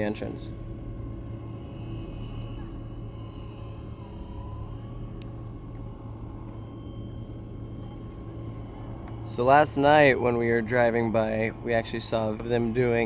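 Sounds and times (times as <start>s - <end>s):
faint steady whine: 0.0s - 13.0s
vehicle engine rumble: 0.0s - 13.0s.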